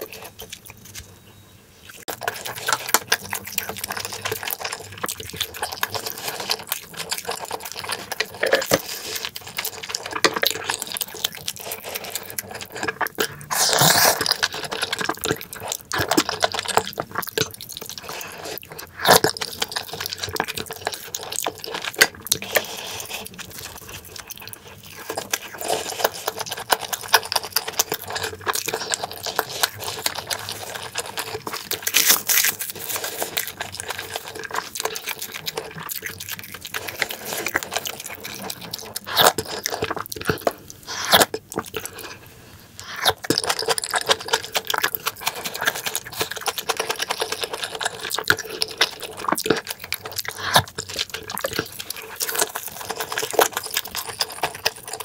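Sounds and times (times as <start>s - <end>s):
wet chewing: 0.0s - 1.1s, 1.9s - 55.0s.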